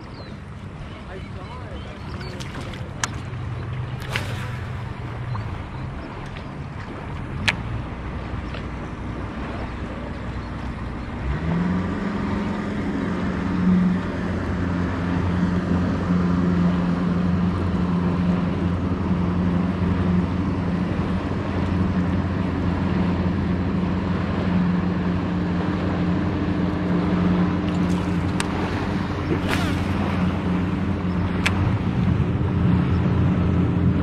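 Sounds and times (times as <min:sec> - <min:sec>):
motorboat engine running: 0:00.0 - 0:34.0.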